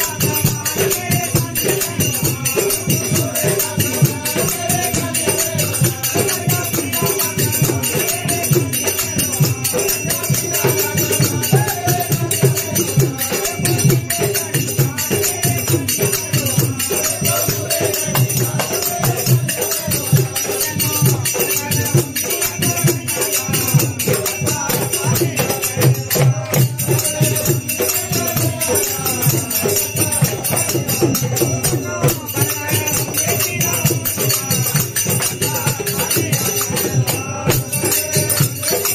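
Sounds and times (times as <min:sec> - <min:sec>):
hand drums playing a beat: 0:00.0 - 0:38.9
men singing in chorus: 0:00.0 - 0:38.9.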